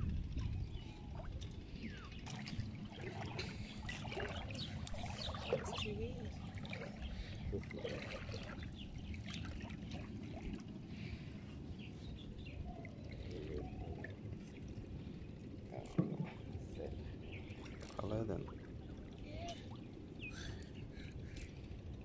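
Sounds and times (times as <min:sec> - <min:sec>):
river water trickling and splashing: 0:00.0 - 0:22.0.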